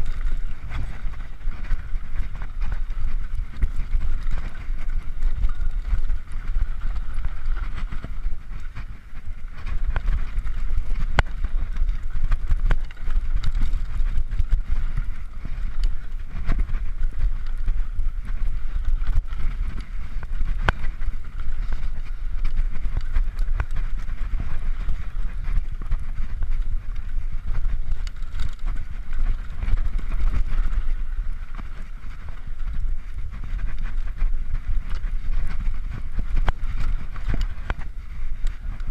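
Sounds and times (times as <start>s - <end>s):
bike frame rattling and knocking: 0.0s - 38.9s
tyre noise on loose dirt: 0.0s - 38.9s
wind rumble on microphone: 0.0s - 38.9s.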